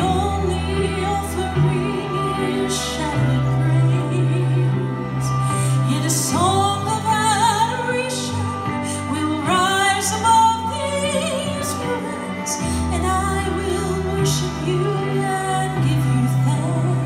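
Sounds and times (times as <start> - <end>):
instrumental accompaniment: 0.0 - 17.0
woman singing: 0.0 - 17.0.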